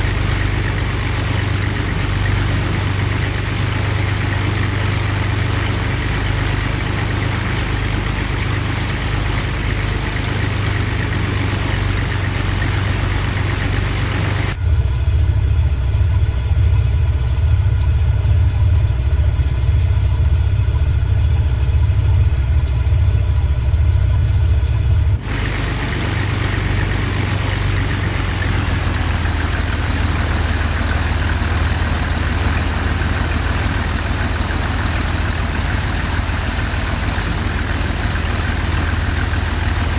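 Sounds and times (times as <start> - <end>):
plane engine and propeller droning: 0.0 - 39.9.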